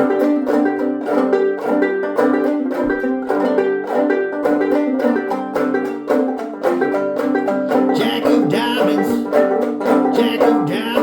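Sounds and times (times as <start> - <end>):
banjo string music: 0.0 - 11.0.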